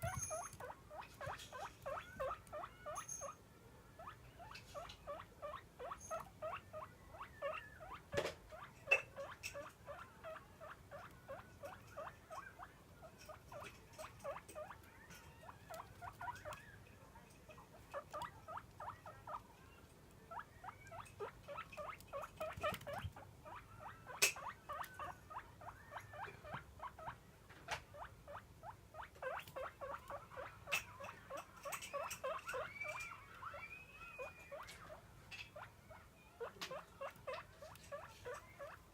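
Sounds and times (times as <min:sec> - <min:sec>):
guinea pig squeaking: 0:00.0 - 0:38.9.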